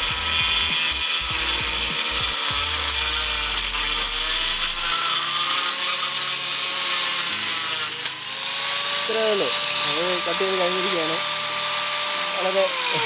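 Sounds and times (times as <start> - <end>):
angle grinder cutting wood: 0.0 - 13.0.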